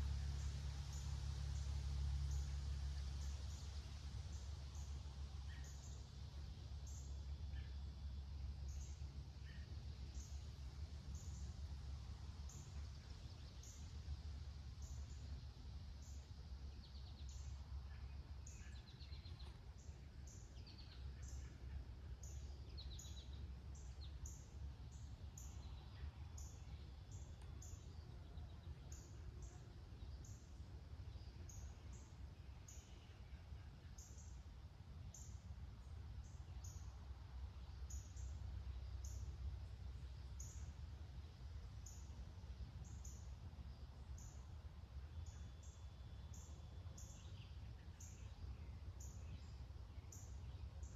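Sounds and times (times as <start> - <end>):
small birds chirping: 0.0 - 50.9
steady low rumble: 0.0 - 50.9.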